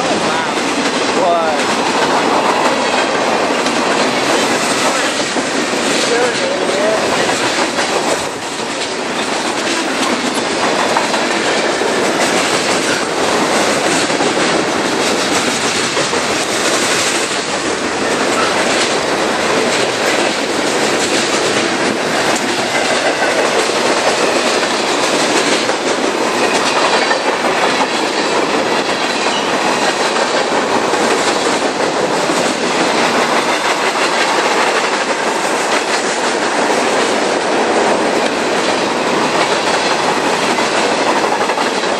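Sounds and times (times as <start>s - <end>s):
train cars rumbling past: 0.0s - 41.9s
wheels clicking over rail joints: 0.0s - 41.9s.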